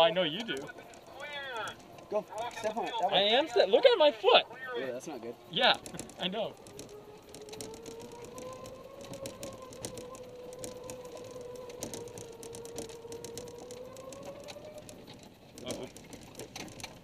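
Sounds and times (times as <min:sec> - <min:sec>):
light clicks and rattles: 0:00.0 - 0:04.1, 0:04.7 - 0:17.0
golf cart motor whining: 0:00.0 - 0:17.0.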